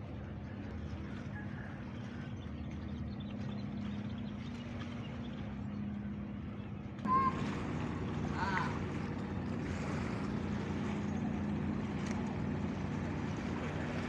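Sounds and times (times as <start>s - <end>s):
ship diesel engine droning: 0.0s - 14.0s.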